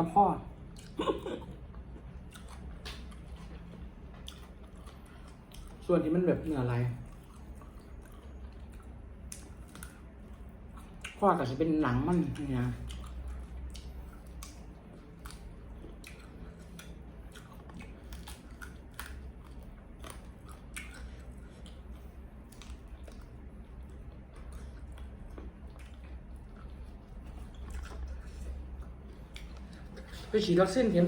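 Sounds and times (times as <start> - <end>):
steady low hum: 0.0 - 31.0
person chewing food: 0.5 - 5.9, 7.0 - 11.2, 12.1 - 30.3.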